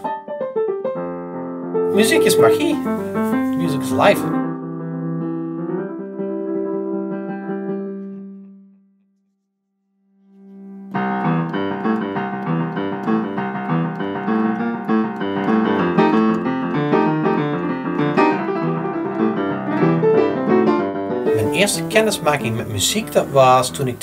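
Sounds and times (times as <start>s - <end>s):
digital piano playing: 0.0s - 8.1s, 10.5s - 24.0s.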